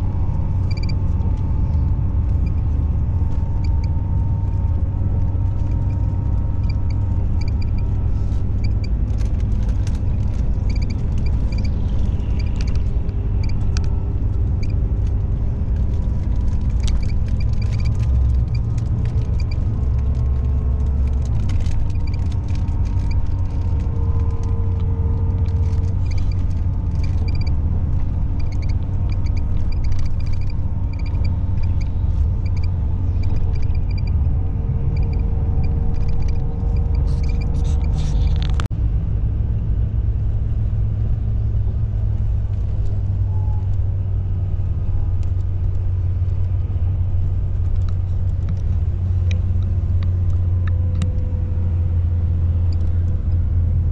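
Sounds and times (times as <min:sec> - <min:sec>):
road and engine rumble: 0:00.0 - 0:53.9.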